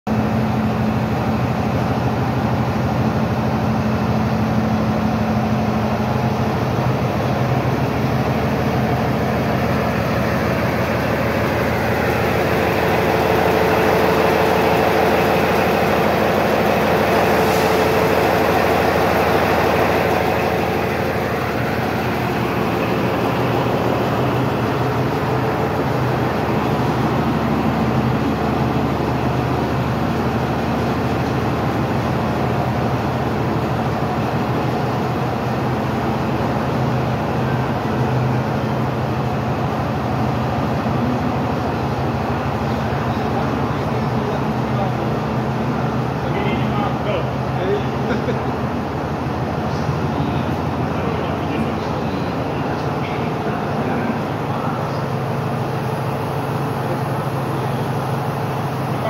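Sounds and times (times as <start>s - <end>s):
diesel engine idling: 0.1s - 59.0s.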